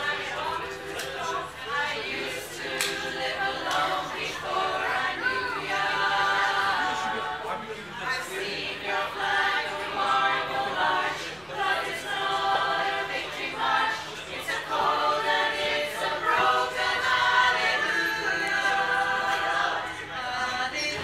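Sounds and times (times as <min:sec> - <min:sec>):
choir singing in harmony: 0:00.0 - 0:21.0.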